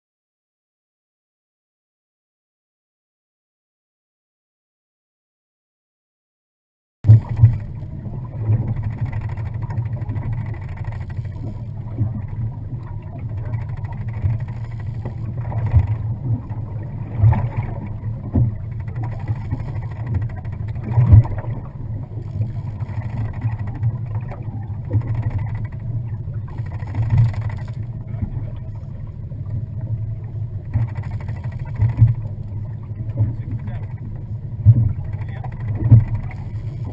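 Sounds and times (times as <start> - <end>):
boat motor humming: 7.0 - 36.9.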